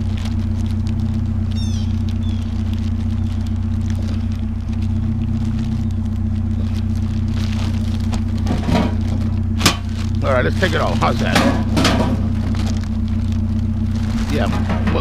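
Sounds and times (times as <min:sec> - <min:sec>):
clicks and rattles: 0:00.0 - 0:13.4, 0:14.2 - 0:15.0
vehicle engine idling: 0:00.0 - 0:15.0.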